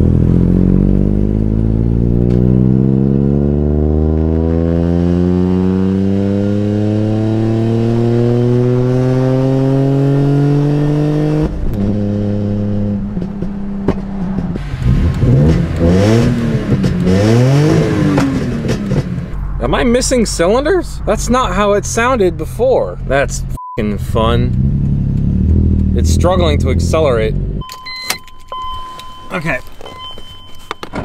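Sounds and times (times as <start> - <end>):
car engine accelerating: 0.0 - 27.7.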